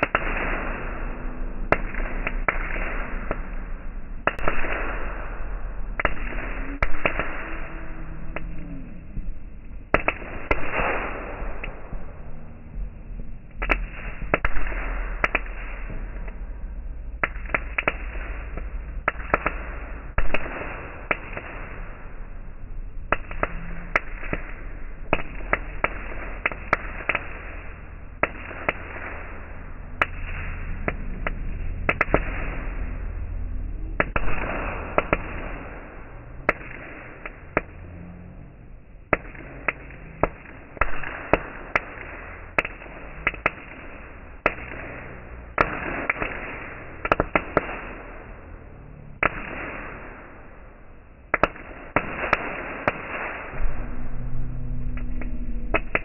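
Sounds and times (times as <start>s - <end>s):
firework crackles and pops: 0.0s - 56.0s.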